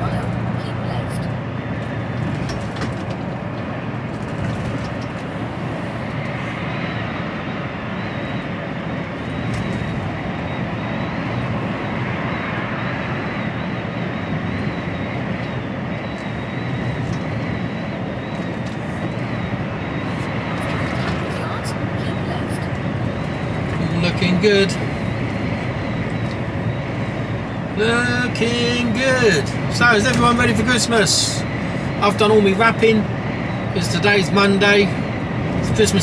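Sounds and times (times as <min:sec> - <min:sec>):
lorry engine and road noise: 0:00.0 - 0:36.0.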